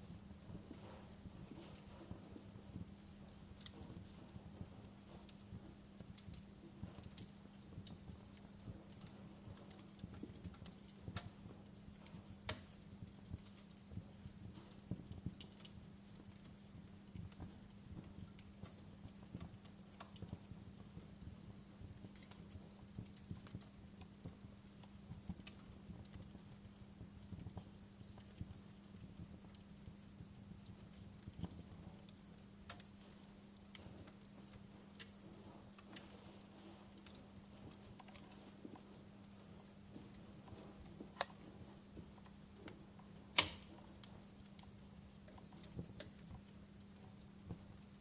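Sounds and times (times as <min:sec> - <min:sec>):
low steady hum: 0:00.0 - 0:48.0
wood fire crackling: 0:00.0 - 0:48.0.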